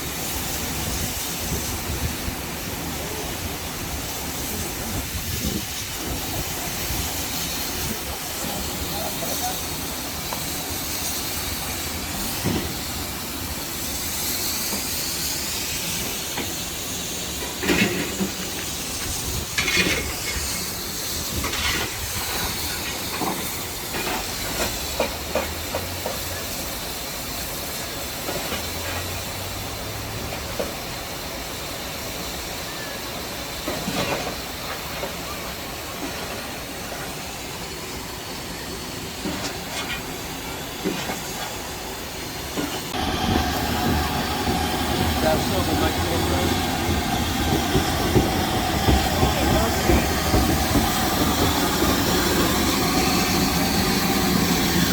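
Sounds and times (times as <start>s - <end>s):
steam hissing: 0.0s - 54.9s.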